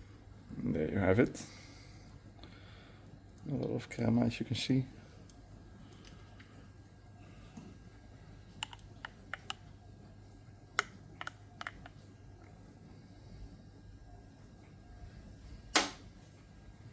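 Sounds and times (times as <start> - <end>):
faint steady low hum: 0.0 - 16.9.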